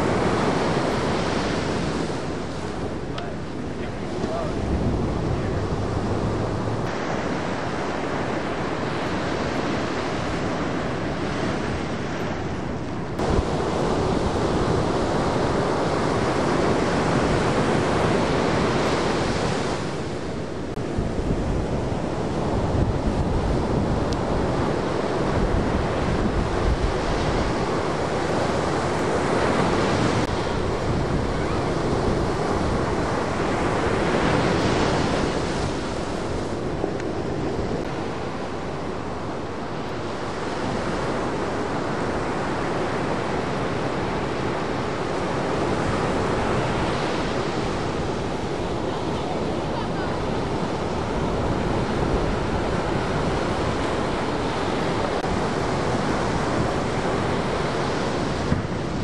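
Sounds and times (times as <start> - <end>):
ocean surf breaking: 0.0 - 59.0
wind on microphone: 0.0 - 59.0.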